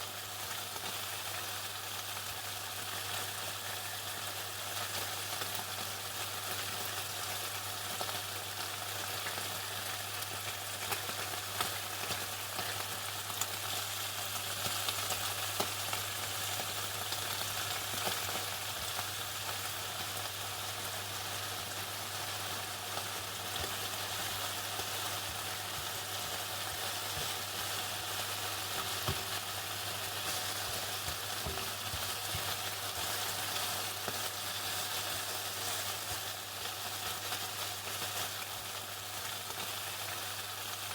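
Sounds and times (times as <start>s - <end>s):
chicken sizzling in hot oil: 0.0s - 40.9s.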